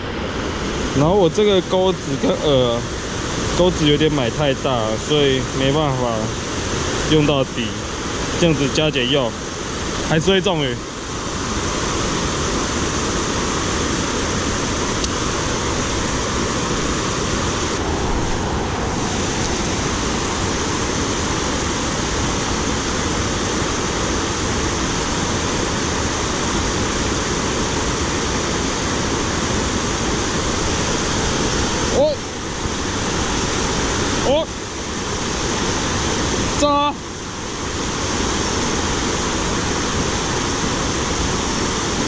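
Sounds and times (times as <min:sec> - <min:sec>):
flowing creek water: 0:00.0 - 0:42.0.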